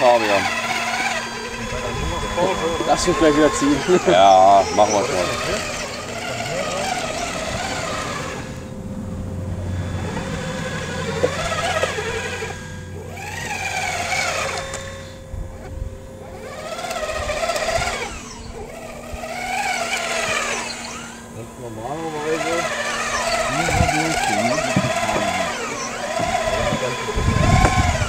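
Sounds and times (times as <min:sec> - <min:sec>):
model excavator motors whining: 0:00.0 - 0:28.0.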